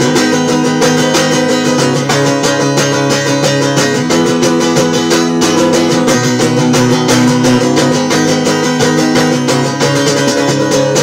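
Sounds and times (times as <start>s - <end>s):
guitar strummed fast: 0.0s - 11.0s.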